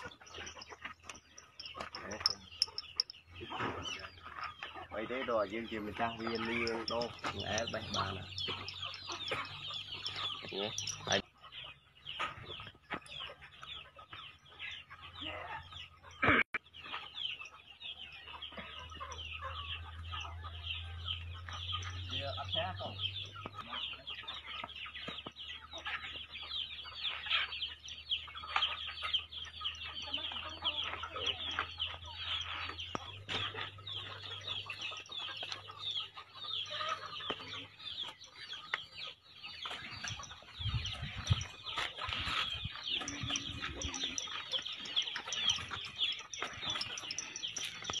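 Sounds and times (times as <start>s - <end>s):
birds chirping and clucking: 0.0s - 48.0s.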